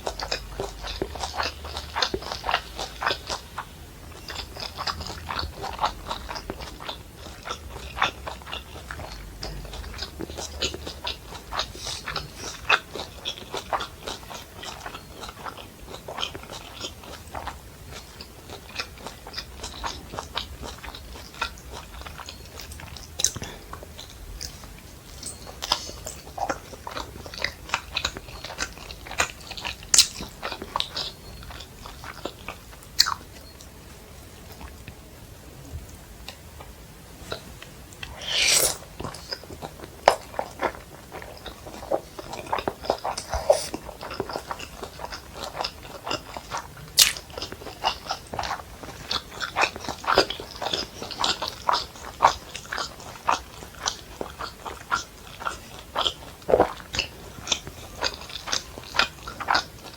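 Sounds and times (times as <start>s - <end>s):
wet chewing and biting: 0.0s - 33.7s, 37.3s - 59.9s
crunching food: 0.0s - 35.0s, 36.2s - 59.9s.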